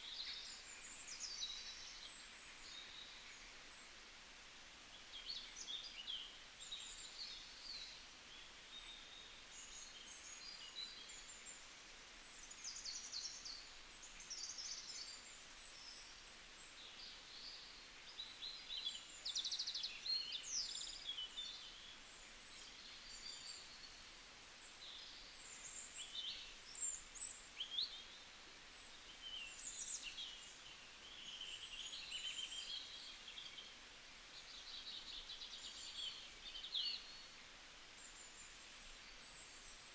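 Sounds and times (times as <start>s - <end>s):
faint steady hiss: 0.0s - 39.9s
small birds chirping and trilling: 5.1s - 39.9s.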